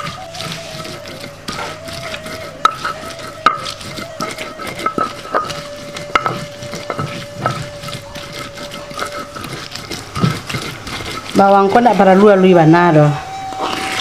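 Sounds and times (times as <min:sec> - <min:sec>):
stone pestle scraping: 0:00.0 - 0:14.0.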